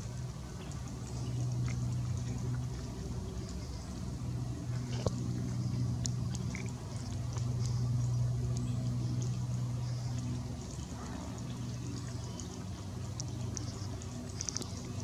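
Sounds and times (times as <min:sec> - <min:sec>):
faint high ticks and crackle: 0:00.0 - 0:15.0
steady low hum: 0:00.0 - 0:15.0.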